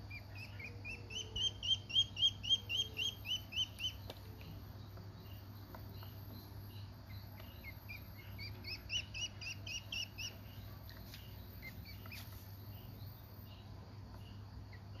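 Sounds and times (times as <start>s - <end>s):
duckling peeping: 0.0s - 4.6s, 5.2s - 15.0s.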